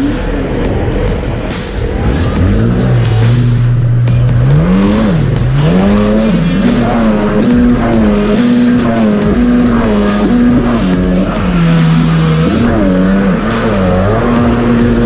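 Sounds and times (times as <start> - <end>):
soundtrack music with bass notes: 0.0 - 15.0.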